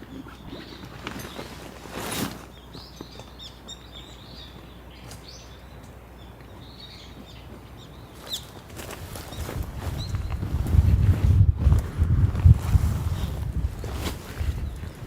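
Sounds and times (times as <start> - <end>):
small birds chirping: 0.0 - 11.0, 13.1 - 15.0.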